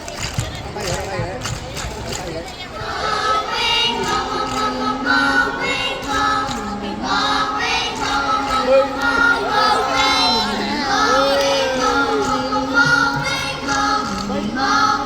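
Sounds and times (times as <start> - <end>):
children's choir singing: 2.6 - 15.0.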